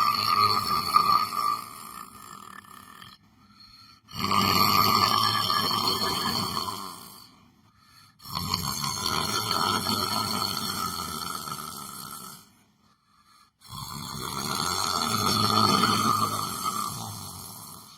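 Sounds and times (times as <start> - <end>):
person snoring: 0.0 - 17.9.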